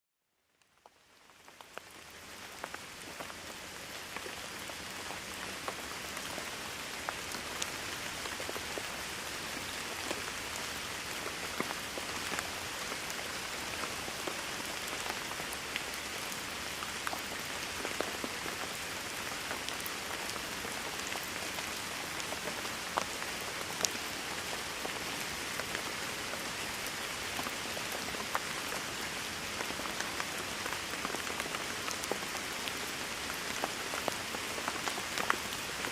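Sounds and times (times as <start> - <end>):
heavy rain falling: 0.8 - 35.9.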